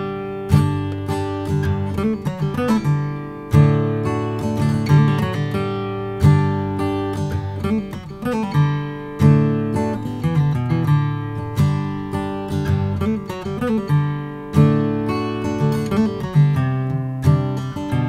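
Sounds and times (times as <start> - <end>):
acoustic guitar playing chords: 0.0 - 18.0.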